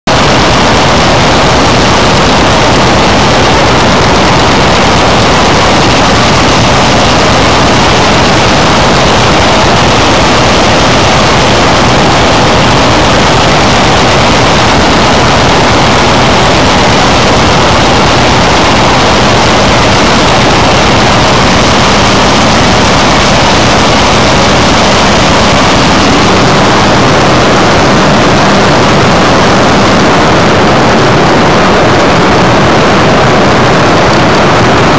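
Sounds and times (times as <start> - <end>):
corn picker machinery din: 0.1 - 34.9.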